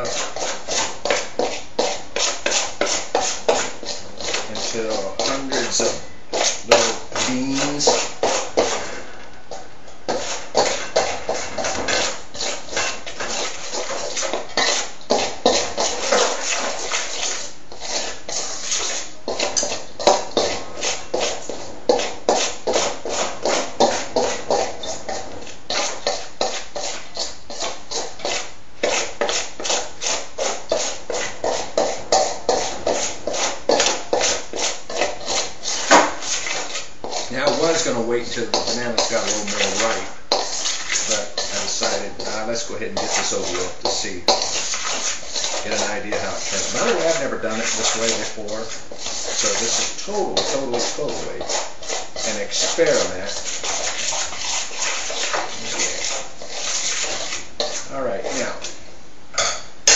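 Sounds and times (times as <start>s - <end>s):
knives scraping metal bowl: 0.0s - 9.0s, 10.1s - 58.8s.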